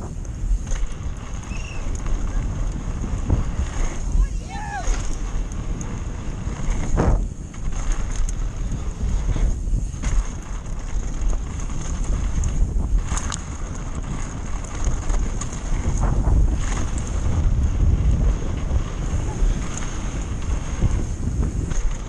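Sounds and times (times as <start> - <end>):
bike clicks and rattles: 0.0 - 22.0
wind buffeting microphone: 0.0 - 22.0.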